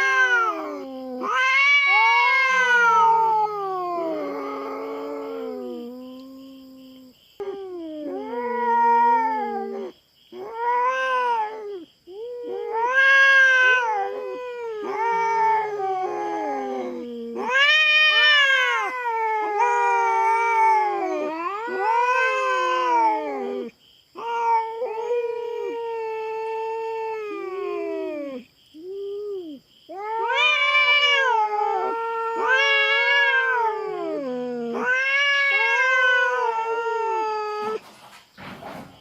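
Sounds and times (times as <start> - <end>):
cat yowling: 0.0 - 37.8.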